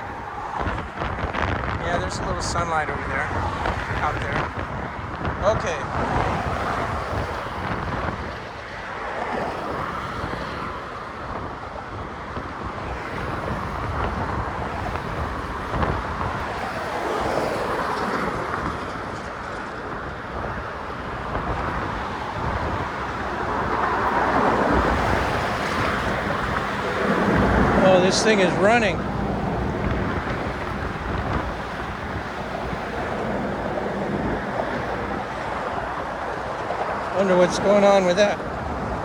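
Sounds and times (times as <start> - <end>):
motor traffic passing: 0.0 - 39.0
wind buffeting microphone: 0.0 - 39.0.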